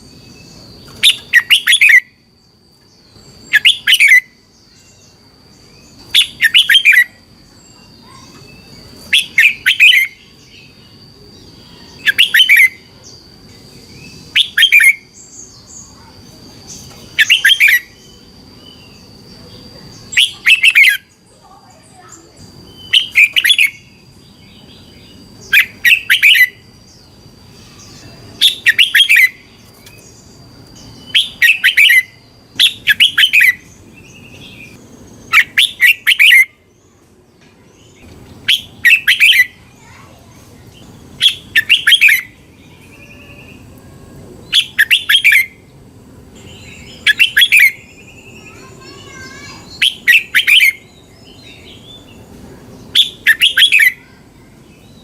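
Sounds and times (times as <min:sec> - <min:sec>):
bird singing bubbling phrases: 0:00.0 - 0:37.0, 0:37.8 - 0:55.0.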